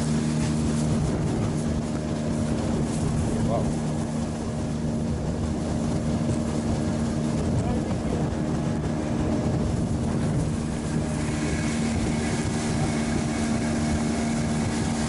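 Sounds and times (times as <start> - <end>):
outboard motor running: 0.0 - 15.0
wind and water rushing: 0.0 - 15.0.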